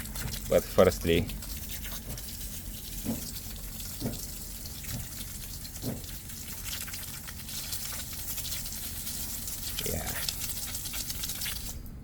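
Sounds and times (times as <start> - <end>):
tap water running: 0.0 - 11.8.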